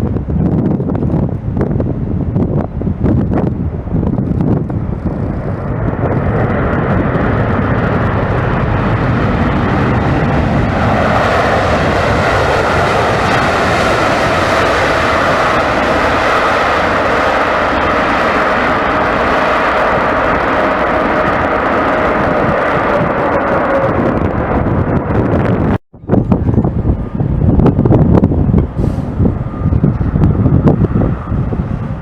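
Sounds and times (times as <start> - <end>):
jet engine roar: 0.0 - 32.0
wind buffeting microphone: 0.0 - 32.0.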